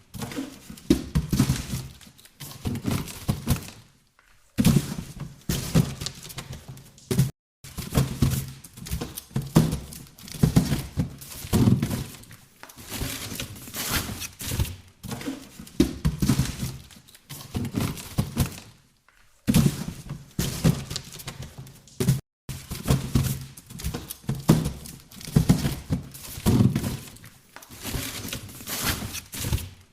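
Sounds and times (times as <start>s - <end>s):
cardboard boxes thunking and scuffing: 0.0s - 3.9s, 4.6s - 18.8s, 19.4s - 29.9s.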